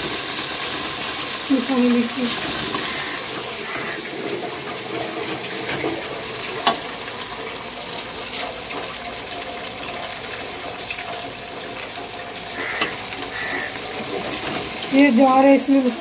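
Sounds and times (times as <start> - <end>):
water running from a tap: 0.0 - 16.0.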